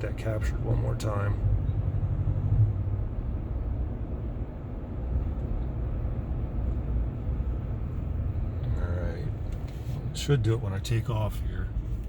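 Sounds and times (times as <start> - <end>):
road and drivetrain rumble: 0.0 - 12.0.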